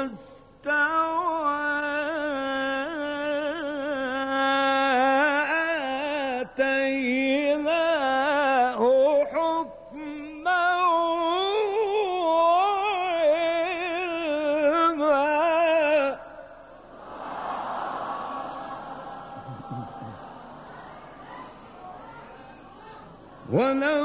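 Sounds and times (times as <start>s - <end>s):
man reciting melismatic chant: 0.0s - 17.3s, 18.0s - 24.0s.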